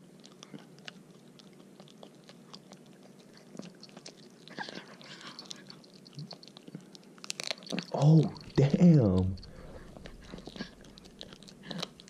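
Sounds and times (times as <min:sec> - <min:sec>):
dog crunching on bone: 0:00.0 - 0:12.0.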